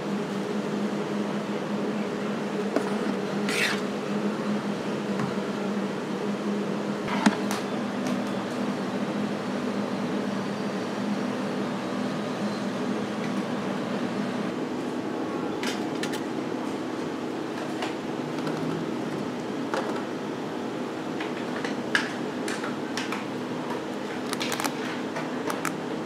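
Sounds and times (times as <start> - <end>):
ice cream machine humming: 0.0 - 26.0.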